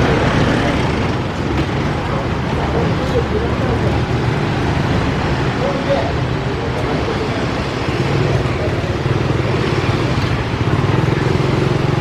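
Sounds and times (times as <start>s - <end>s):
street noise: 0.0s - 12.0s
vehicle engine running: 0.0s - 12.0s.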